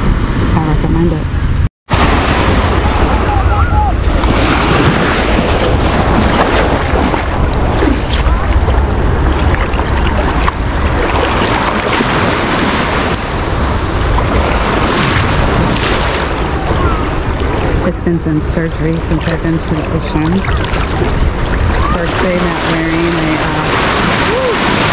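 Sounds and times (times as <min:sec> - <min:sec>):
wind rumbling on microphone: 0:00.0 - 0:24.9
small waves washing over sand: 0:01.9 - 0:24.9.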